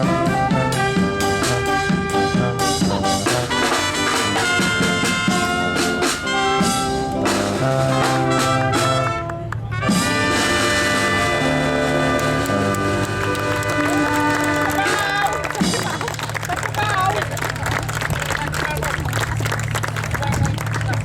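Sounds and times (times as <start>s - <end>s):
brass band playing: 0.0s - 21.0s
drums: 0.0s - 21.0s.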